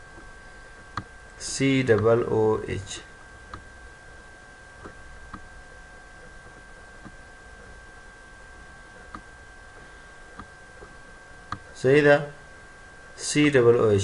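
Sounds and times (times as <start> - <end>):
faint electrical whine: 0.0 - 14.0.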